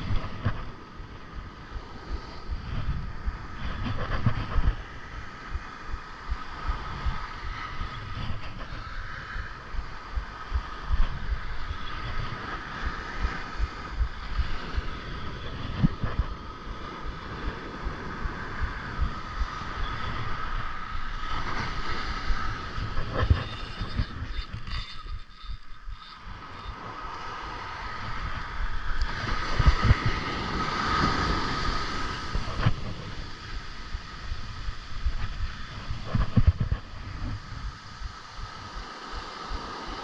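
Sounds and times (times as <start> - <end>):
surf breaking on beach: 0.0 - 40.0
wind buffeting microphone: 0.0 - 40.0.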